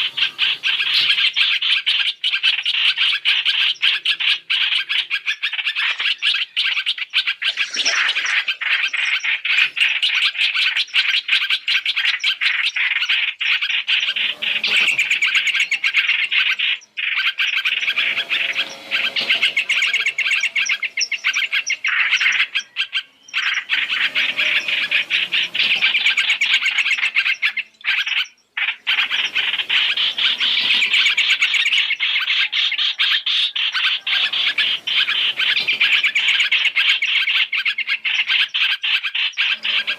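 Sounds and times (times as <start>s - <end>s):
rapid high bird chattering calls: 0.0s - 39.9s.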